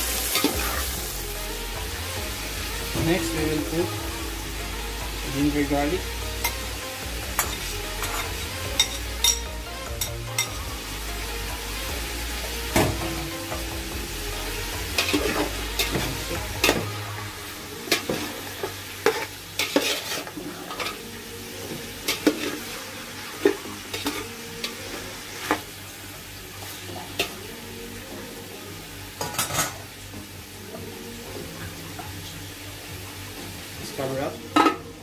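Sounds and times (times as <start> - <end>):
light sizzle of frying: 0.0 - 35.0.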